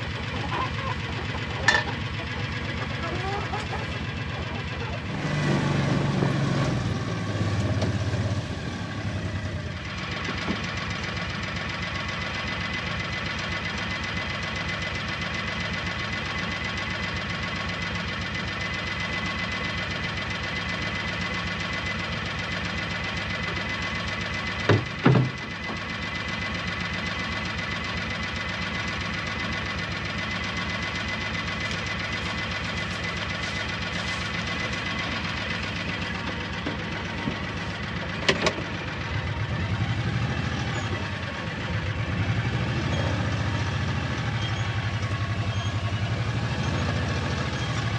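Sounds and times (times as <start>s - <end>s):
small engine running: 0.0s - 47.9s.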